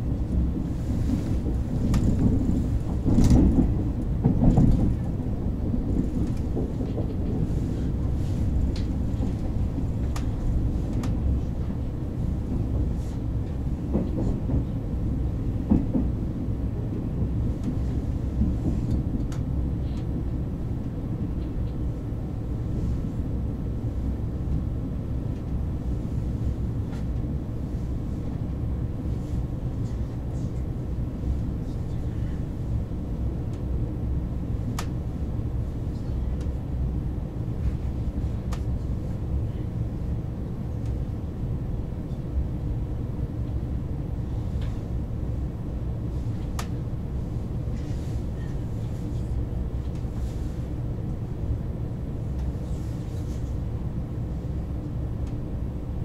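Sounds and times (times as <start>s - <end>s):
high-speed train rumbling: 0.0s - 56.0s.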